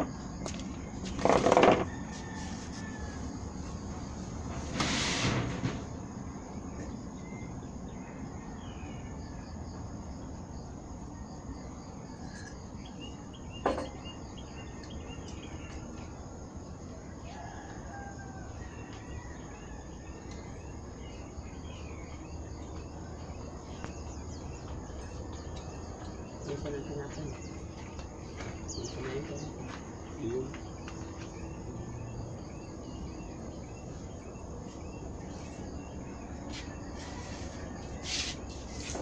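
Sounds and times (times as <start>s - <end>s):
insect drone: 0.0s - 39.0s.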